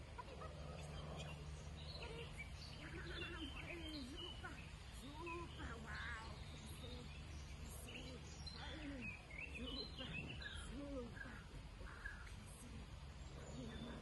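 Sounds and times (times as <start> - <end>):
birds chirping: 0.0 - 14.0
faint distant voices: 0.0 - 14.0
low background rumble: 0.0 - 14.0.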